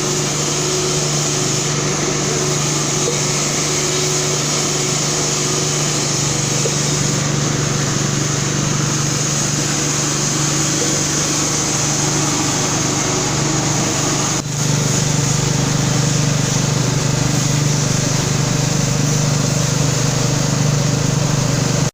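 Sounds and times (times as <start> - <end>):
machine motor humming: 0.0 - 21.9.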